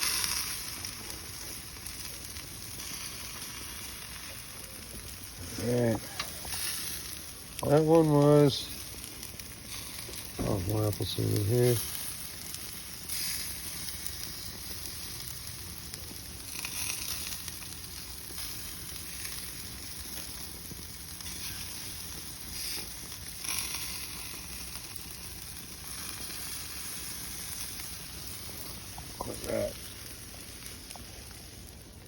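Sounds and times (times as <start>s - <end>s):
chicken wings sizzling: 0.0s - 32.0s.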